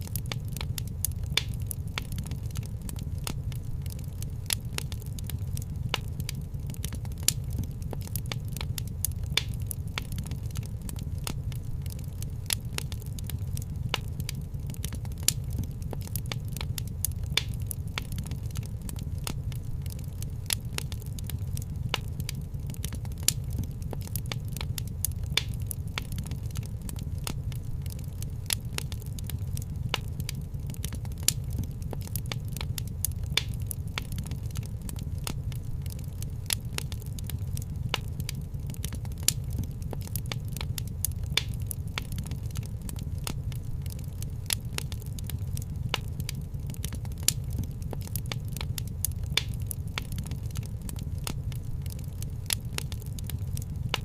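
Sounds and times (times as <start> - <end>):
low steady rumble: 0.0 - 54.0
wood fire crackling: 0.0 - 54.0.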